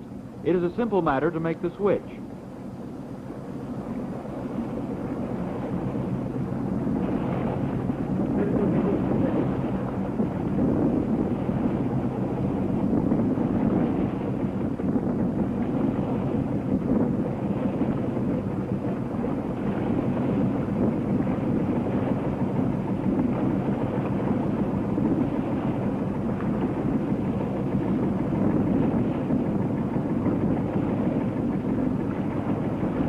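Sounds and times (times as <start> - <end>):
boat engine droning: 0.0 - 33.0
wind noise: 4.4 - 33.0.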